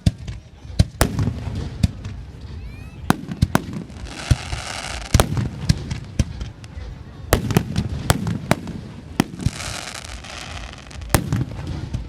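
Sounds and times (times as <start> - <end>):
fireworks bangs: 0.0 - 12.0
firework hiss: 1.0 - 12.0.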